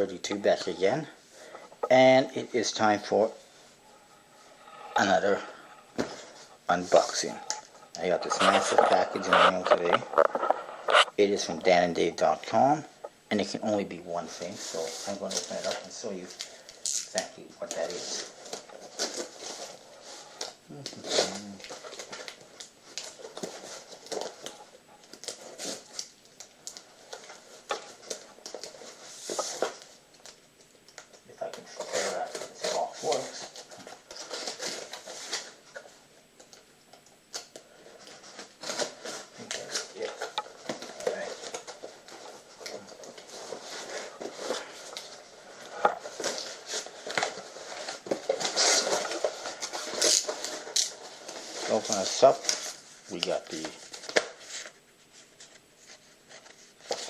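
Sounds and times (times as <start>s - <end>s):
cardboard rustling and scraping: 0.4s - 11.5s, 17.3s - 26.1s, 27.0s - 30.0s, 31.5s - 35.9s, 37.9s - 57.0s.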